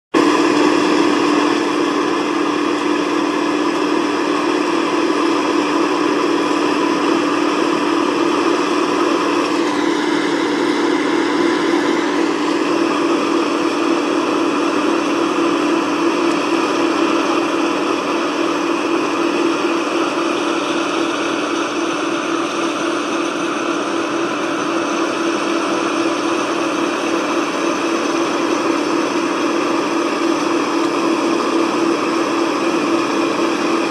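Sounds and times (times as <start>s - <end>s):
combine harvester humming: 0.2s - 33.9s
high-pitched machinery whine: 0.2s - 33.9s.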